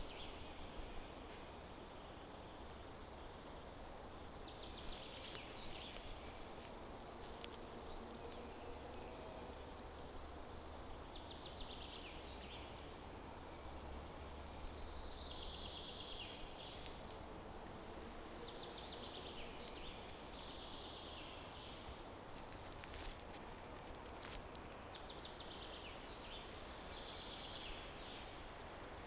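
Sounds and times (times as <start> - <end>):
steady hiss and low hum: 0.0 - 29.0.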